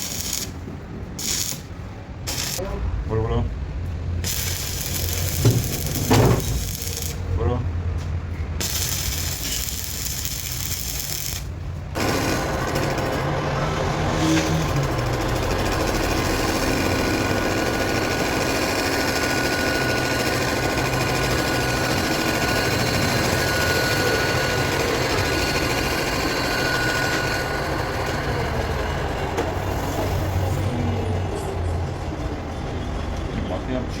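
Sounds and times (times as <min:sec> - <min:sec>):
heavy machinery running: 0:00.0 - 0:02.7, 0:04.2 - 0:07.5, 0:08.3 - 0:33.2.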